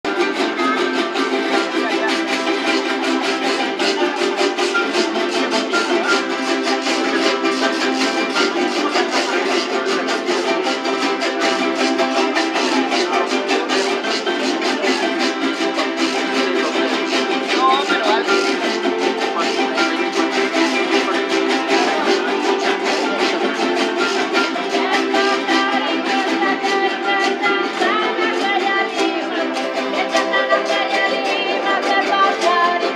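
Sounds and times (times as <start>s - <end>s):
small guitars strummed fast: 0.0s - 32.9s.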